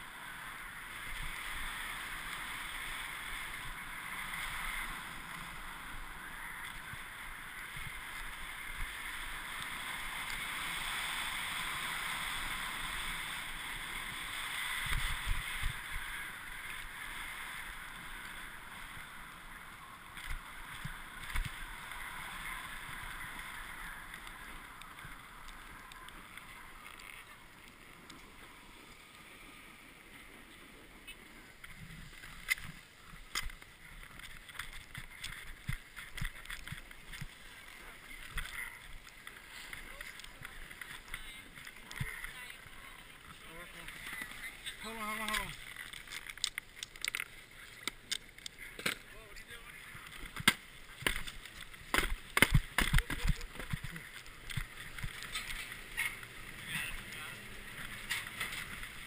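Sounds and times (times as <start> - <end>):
snowboard scraping over snow: 0.0 - 46.0, 48.5 - 59.0.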